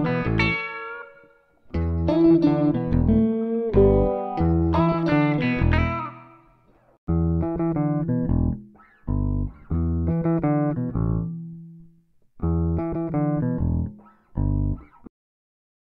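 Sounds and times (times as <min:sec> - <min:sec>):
plucked guitar over bass: 0:00.0 - 0:01.0, 0:01.7 - 0:06.3, 0:07.1 - 0:15.1.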